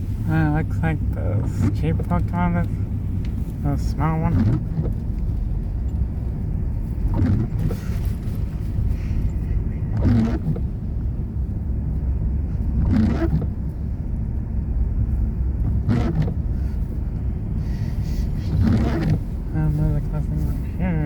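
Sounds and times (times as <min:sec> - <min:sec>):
vehicle road noise rumble: 0:00.0 - 0:21.0.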